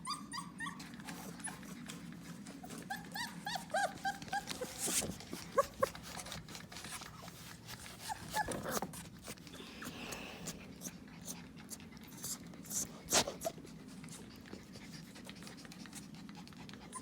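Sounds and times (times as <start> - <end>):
puppies whining: 0.0 - 17.0.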